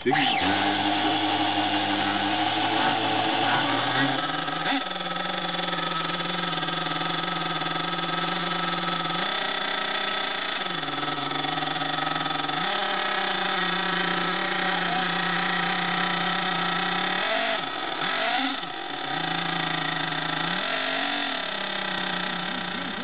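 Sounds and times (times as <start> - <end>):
small nitro engine idling: 0.0 - 23.0.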